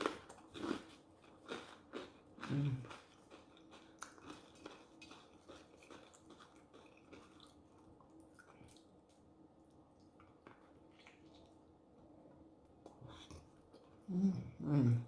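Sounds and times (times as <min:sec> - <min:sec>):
faint chewing of food: 0:00.0 - 0:14.8.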